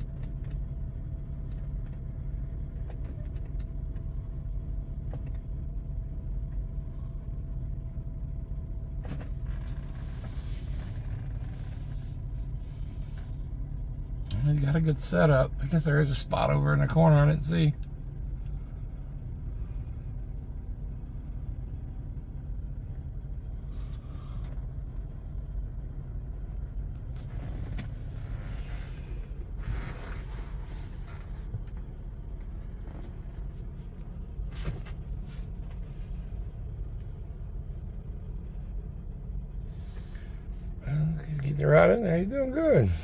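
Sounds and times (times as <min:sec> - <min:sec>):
diesel truck engines rumbling: 0:00.0 - 0:43.0.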